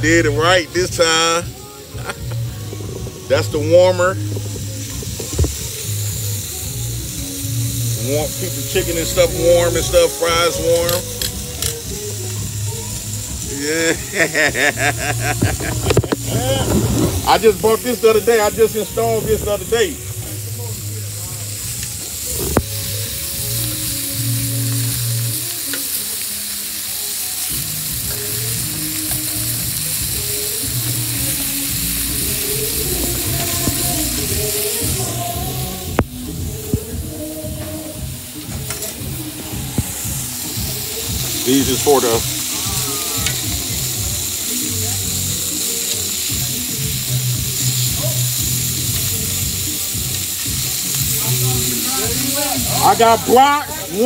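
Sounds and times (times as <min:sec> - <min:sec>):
music playing: 0:00.0 - 0:54.0
sausages sizzling on griddle: 0:00.0 - 0:54.0.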